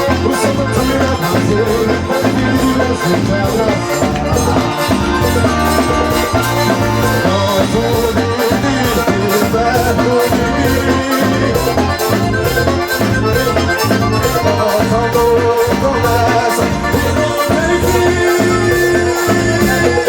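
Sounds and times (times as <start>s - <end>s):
accordion-led band music: 0.0s - 20.0s
bass: 0.0s - 20.0s
drums keeping steady beat: 0.0s - 20.0s.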